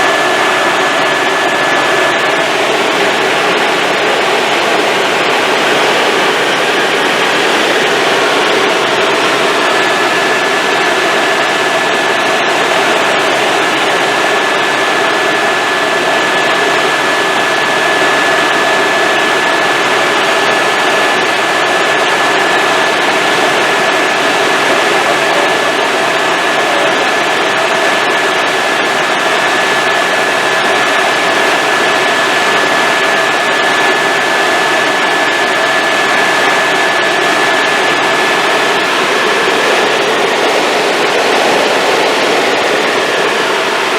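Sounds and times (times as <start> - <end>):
constant high whine: 0.0 - 43.9
helicopter rotor and engine noise: 0.0 - 43.9.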